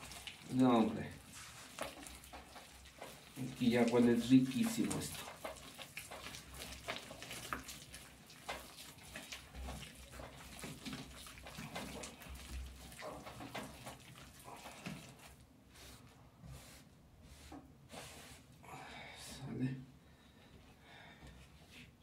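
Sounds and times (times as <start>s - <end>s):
wet squishing of mixture: 0.0s - 18.6s.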